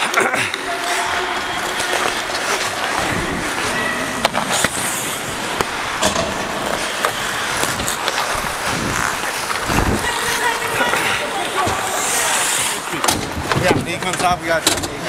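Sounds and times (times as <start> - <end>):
skate blades scraping ice: 0.2 - 13.0.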